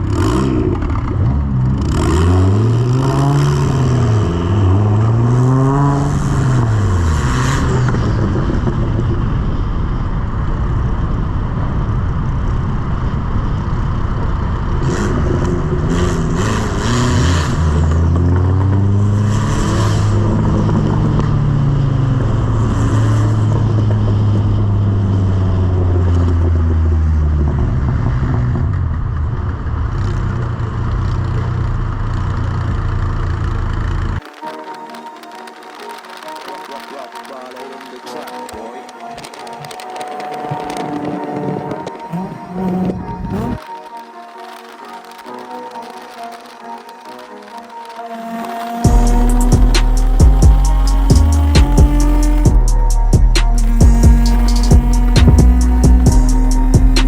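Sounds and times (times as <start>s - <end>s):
car engine revving: 0.0s - 10.4s, 12.9s - 34.7s, 35.8s - 43.9s, 47.9s - 57.0s.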